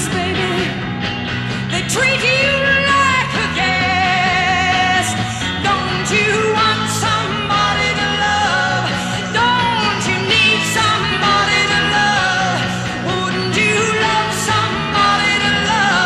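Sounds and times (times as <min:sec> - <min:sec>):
rock song with singing: 0:00.0 - 0:16.0
steady bass line: 0:00.0 - 0:16.0.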